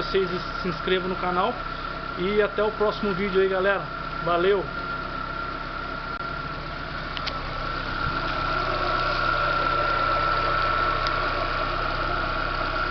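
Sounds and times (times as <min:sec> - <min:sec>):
car engine idling with high tone: 0:00.0 - 0:12.9.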